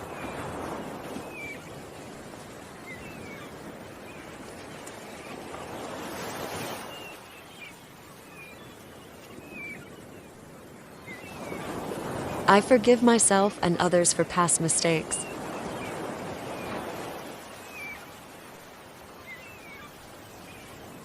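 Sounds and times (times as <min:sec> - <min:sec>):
ocean waves washing in: 0:00.0 - 0:21.0
small birds chirping: 0:00.0 - 0:21.0.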